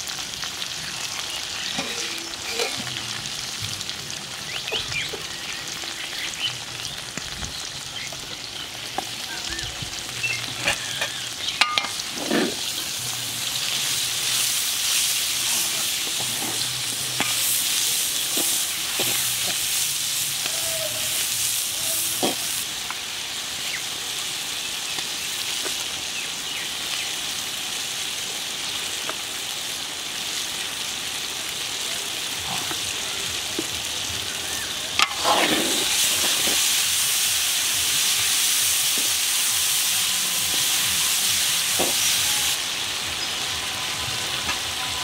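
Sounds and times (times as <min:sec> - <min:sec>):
onions sizzling in hot oil: 0:00.0 - 0:45.0.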